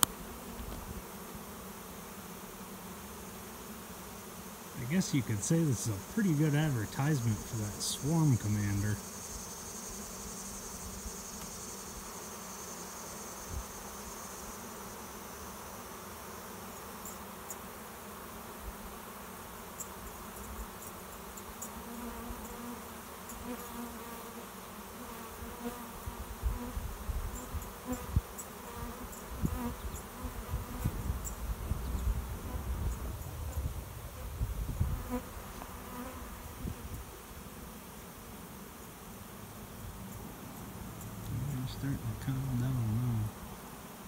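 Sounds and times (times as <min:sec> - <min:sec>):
bee swarm buzzing: 0:00.0 - 0:44.0.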